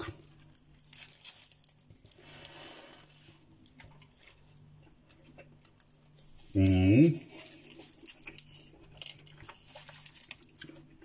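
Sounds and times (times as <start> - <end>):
foil crinkling: 0.0 - 4.3, 5.8 - 11.0
person chewing with soft crunching: 0.0 - 11.0.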